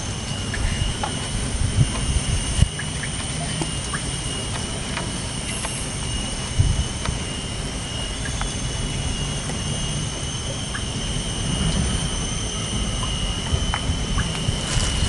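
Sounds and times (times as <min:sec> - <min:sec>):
high-pitched drone: 0:00.0 - 0:15.0
low rumble: 0:00.0 - 0:15.0.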